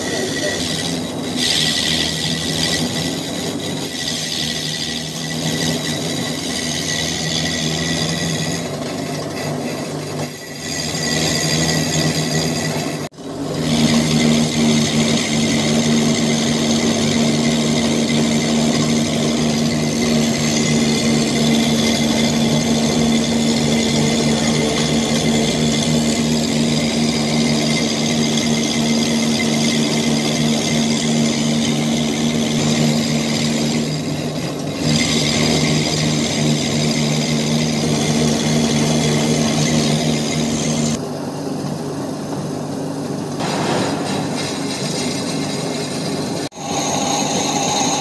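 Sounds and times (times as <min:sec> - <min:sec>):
metal lathe humming and whining: 0:00.0 - 0:41.1, 0:44.4 - 0:48.0.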